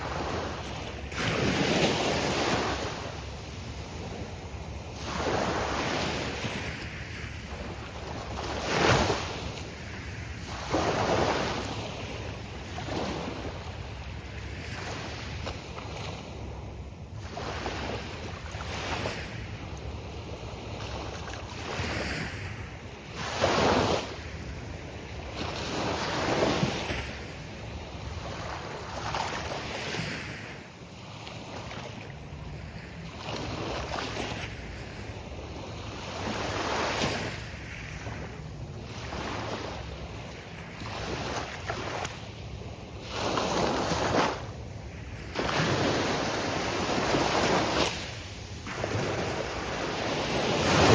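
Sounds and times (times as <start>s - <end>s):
waves breaking on a beach: 0.0s - 50.9s.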